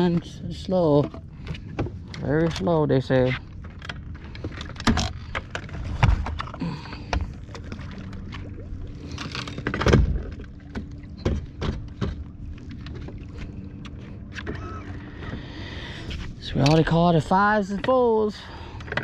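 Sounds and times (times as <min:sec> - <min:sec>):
boat motor hum: 0:00.0 - 0:19.0
knocks and clicks on hull: 0:00.0 - 0:19.0.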